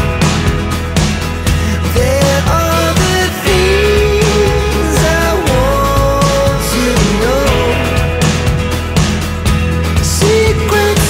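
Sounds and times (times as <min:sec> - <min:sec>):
song with held melody and bass: 0:00.0 - 0:11.0.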